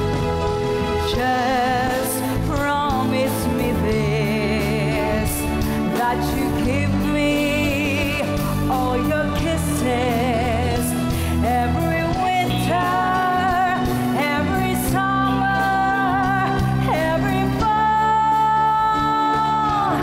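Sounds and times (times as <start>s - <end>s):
instrumental backing music: 0.0s - 20.0s
woman singing with vibrato: 1.0s - 20.0s.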